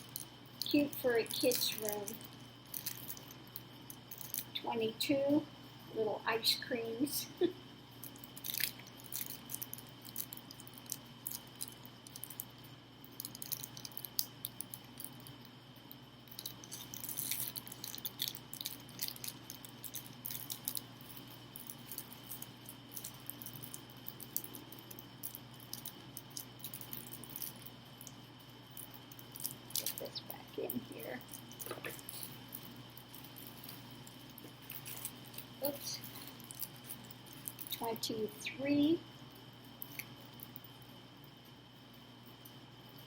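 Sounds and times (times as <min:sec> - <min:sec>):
faint electrical hum: 0:00.0 - 0:43.0.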